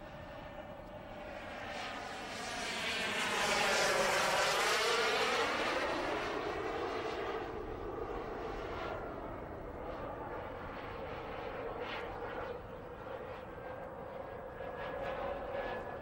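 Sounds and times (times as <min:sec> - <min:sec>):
model jet turbine flying past: 0:00.0 - 0:16.0.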